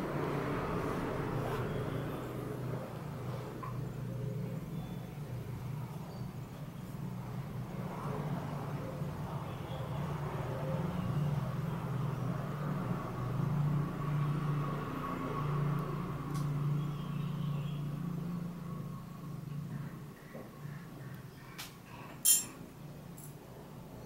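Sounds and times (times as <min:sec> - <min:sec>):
low engine-like hum: 0:00.0 - 0:22.1.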